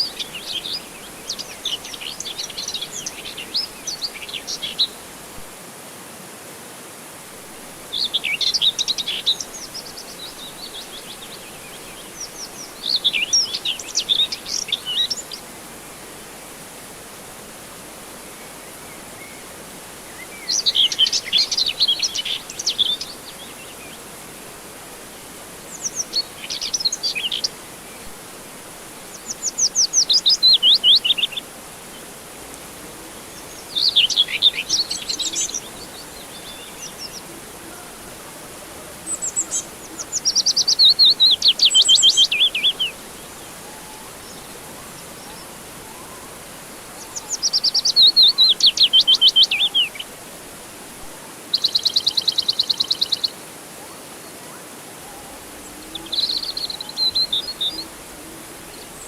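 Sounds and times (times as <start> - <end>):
songbird singing: 0.0 - 5.5, 7.5 - 16.6, 18.1 - 59.0
soft hiss: 0.0 - 59.0.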